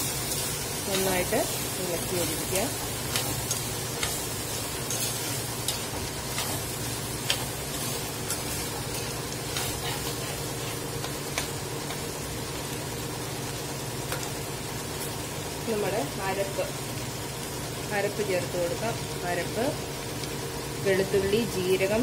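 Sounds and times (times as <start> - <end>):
soft sizzle: 0.0 - 22.0
steady low hum: 0.0 - 22.0.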